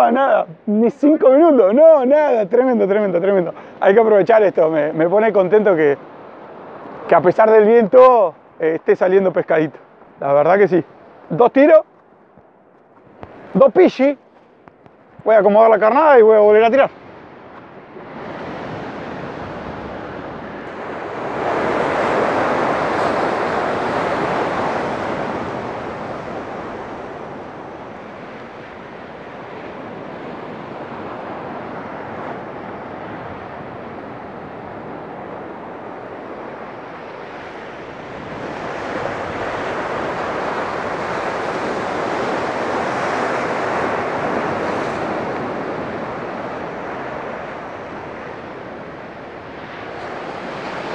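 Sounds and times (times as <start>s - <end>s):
sea surf breaking over rocks: 0.0s - 11.8s, 13.2s - 50.9s.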